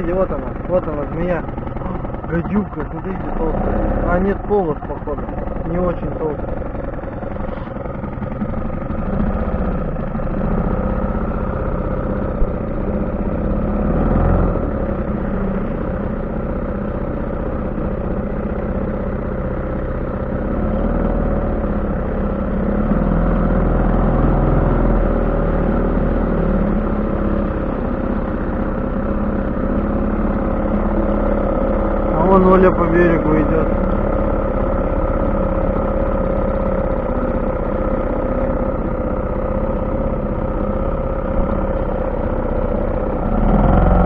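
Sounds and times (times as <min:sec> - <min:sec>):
small outboard motor running: 0:00.0 - 0:44.0.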